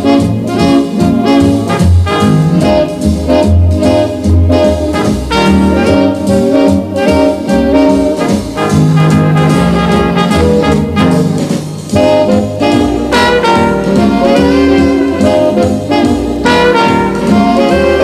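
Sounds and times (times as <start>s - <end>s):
jazz music with saxophone and brass: 0.0s - 18.0s.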